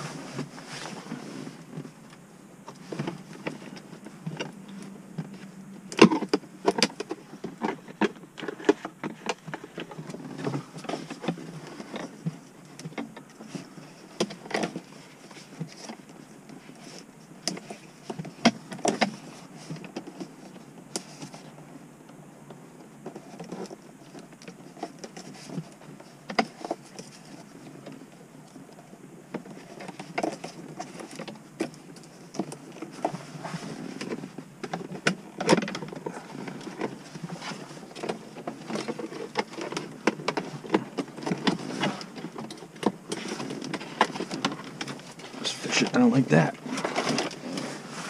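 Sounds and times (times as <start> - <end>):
hands handling wiring and plastic: 0.0 - 48.0.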